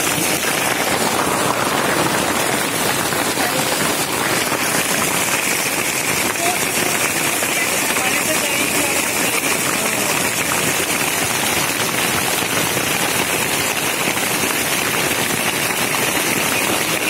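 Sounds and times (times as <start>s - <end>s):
hail on paved road: 0.0s - 17.0s.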